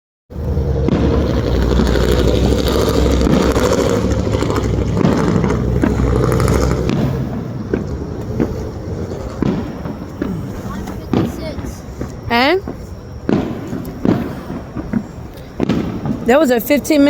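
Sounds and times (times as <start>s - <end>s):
fireworks bursting and crackling: 0.3s - 17.0s.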